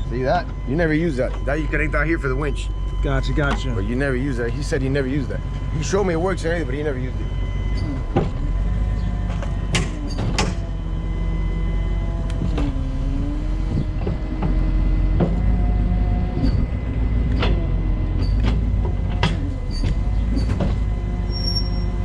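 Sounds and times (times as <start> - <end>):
hydraulic pump whining: 0.0 - 22.0
truck engine running: 0.0 - 22.0.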